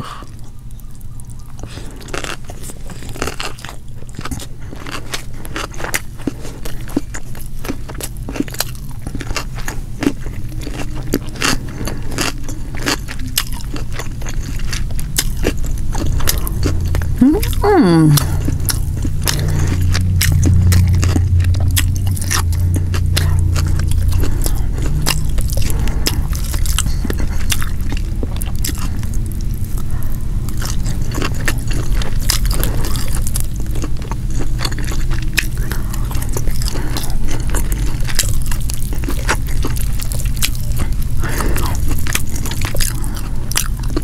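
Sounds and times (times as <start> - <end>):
chewing crunchy food: 0.0 - 44.0
low steady hum: 0.0 - 44.0.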